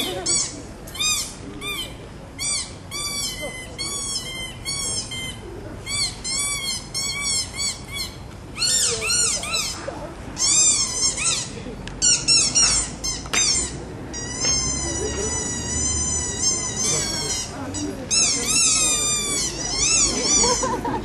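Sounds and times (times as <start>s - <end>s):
bird squawking: 0.0s - 9.8s, 10.4s - 20.8s.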